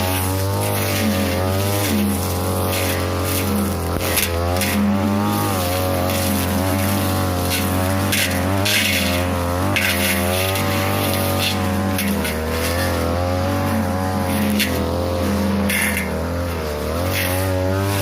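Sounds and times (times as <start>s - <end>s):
blade swishing through brush: 0.0s - 18.0s
brush cutter running: 0.0s - 18.0s.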